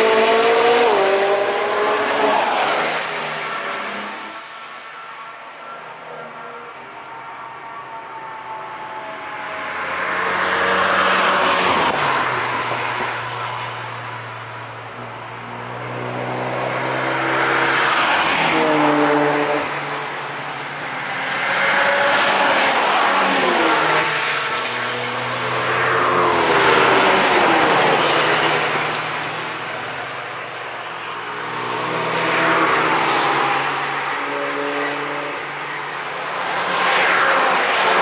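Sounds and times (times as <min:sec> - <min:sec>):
cars driving past at speed: 0:00.0 - 0:04.6, 0:08.7 - 0:38.0.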